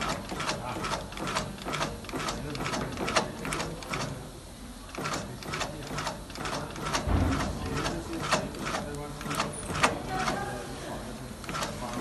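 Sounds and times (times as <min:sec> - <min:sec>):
sewing machine needle clicking: 0:00.0 - 0:04.1, 0:04.9 - 0:10.4, 0:11.5 - 0:11.8.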